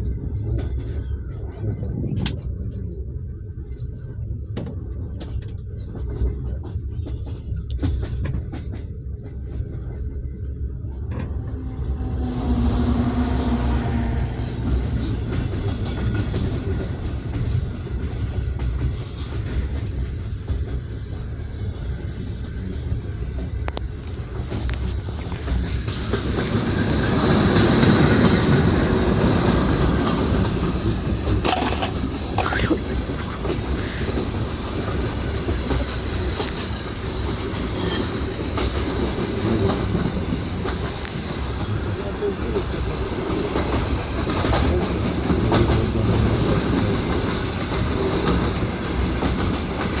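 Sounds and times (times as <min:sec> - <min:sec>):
train wheels rumbling over rails: 0:00.0 - 0:50.0.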